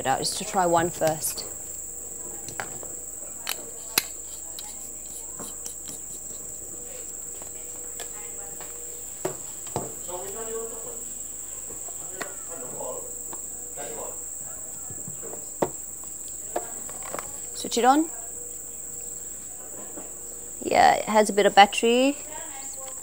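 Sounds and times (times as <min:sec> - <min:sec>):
insects shrilling: 0:00.0 - 0:23.0.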